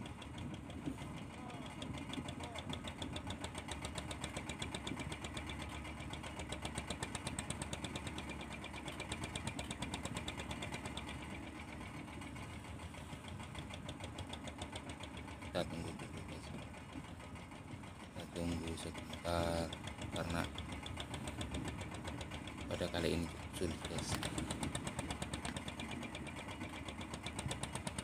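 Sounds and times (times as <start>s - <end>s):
boat engine running: 0.0s - 28.0s
wind: 0.0s - 28.0s.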